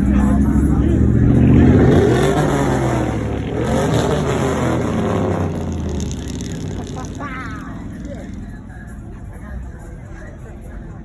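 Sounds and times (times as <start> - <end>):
truck engine revving past: 0.0 - 9.8.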